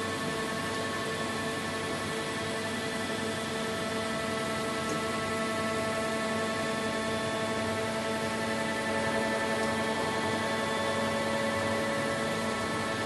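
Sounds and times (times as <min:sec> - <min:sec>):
steady machinery hum: 0:00.0 - 0:13.0.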